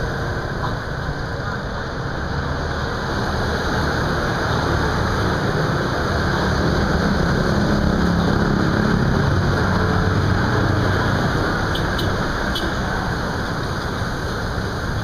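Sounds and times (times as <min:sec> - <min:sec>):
passing motorbikes and cars: 0:00.0 - 0:15.0
vehicle engine hum: 0:00.0 - 0:15.0.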